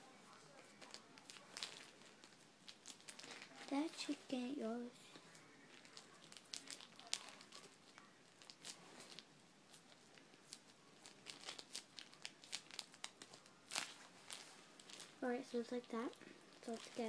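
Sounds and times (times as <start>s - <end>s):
plastic bag crinkling: 0.3s - 17.0s.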